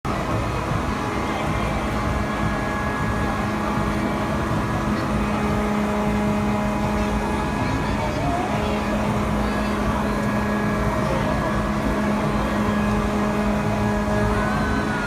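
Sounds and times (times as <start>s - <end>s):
machine hum: 0.1s - 15.0s.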